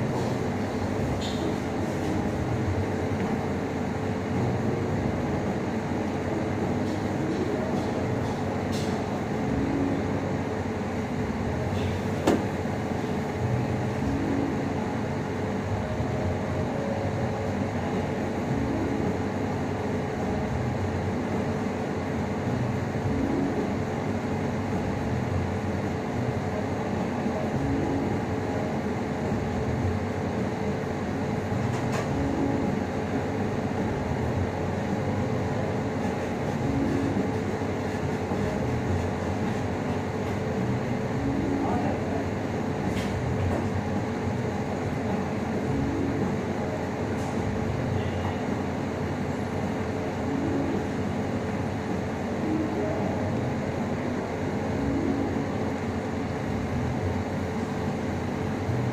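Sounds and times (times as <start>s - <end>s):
mechanical hum with low pulsing: 0.0s - 58.9s.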